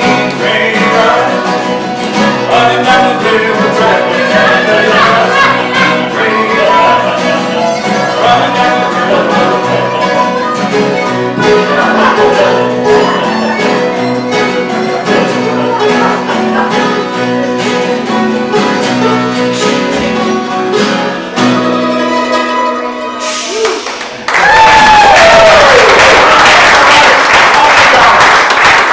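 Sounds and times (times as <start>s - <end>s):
harmonica: 0.0s - 23.9s
strummed acoustic guitar: 0.0s - 24.3s
string instrument: 0.0s - 26.3s.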